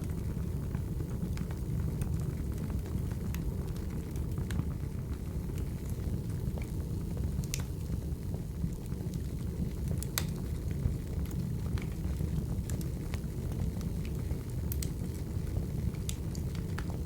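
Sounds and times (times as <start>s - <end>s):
low rumble of flames: 0.0s - 17.0s.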